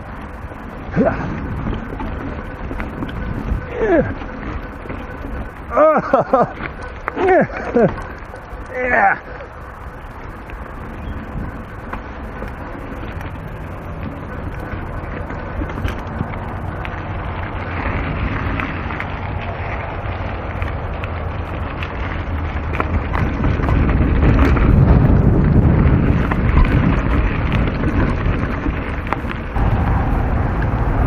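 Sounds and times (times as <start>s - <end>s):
bike rattling clicks: 0.0s - 31.0s
tyres rumbling on dirt trail: 0.0s - 31.0s
wind buffeting microphone: 0.0s - 31.0s.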